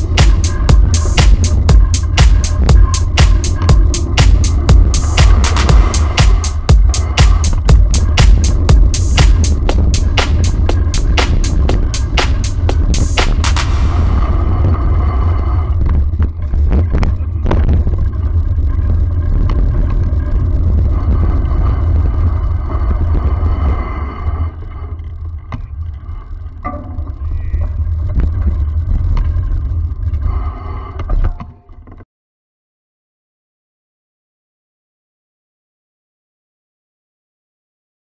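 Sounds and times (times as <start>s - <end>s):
wind rumble on microphone: 0.0s - 31.3s.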